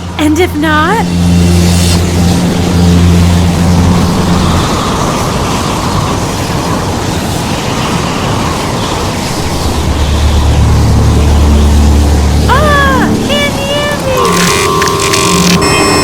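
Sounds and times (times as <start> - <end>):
engine-like hum: 0.0 - 16.0
loud rushing wind noise: 0.0 - 16.0.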